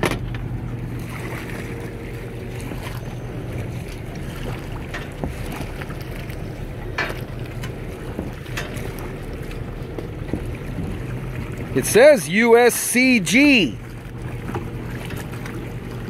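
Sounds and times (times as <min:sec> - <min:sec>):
boat engine running: 0:00.0 - 0:16.0
water washing against hull: 0:00.0 - 0:16.0.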